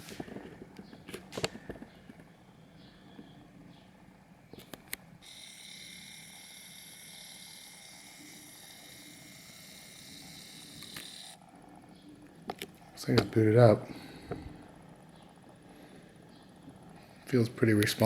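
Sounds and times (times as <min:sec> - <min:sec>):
faint electronic whine and hiss: 0:00.0 - 0:18.0.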